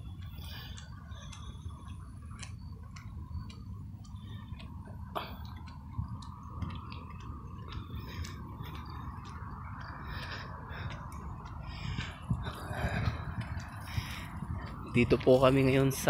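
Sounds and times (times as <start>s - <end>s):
footsteps clicking on a track: 0.0s - 16.0s
steady low rumble: 0.0s - 16.0s.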